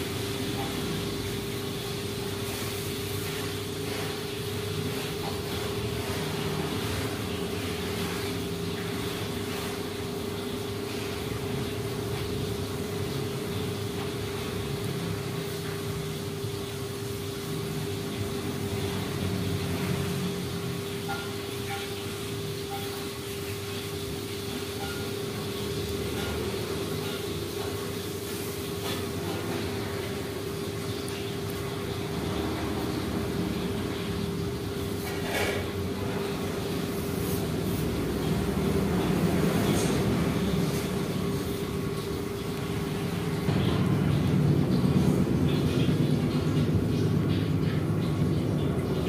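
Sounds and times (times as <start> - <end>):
steady mechanical hum: 0.0 - 49.0.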